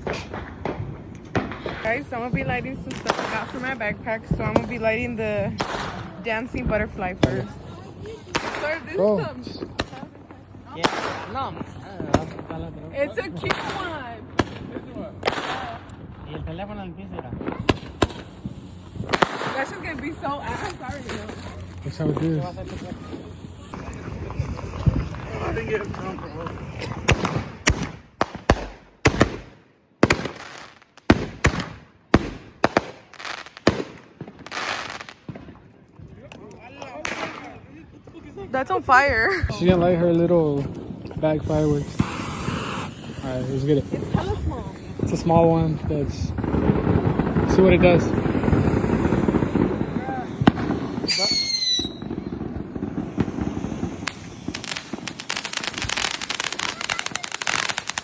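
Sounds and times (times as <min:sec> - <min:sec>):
fireworks bangs: 0:00.0 - 0:58.0
fireworks hissing crackle: 0:00.0 - 0:58.0.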